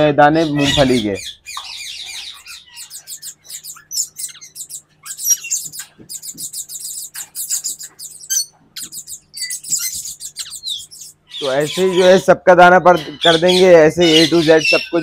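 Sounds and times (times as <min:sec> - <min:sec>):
parakeets chirping: 0:00.0 - 0:15.0.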